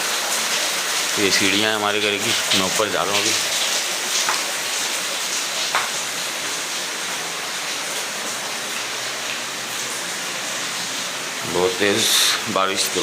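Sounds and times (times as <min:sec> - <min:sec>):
heavy rain pouring: 0:00.0 - 0:13.0
water running off houses: 0:00.0 - 0:13.0.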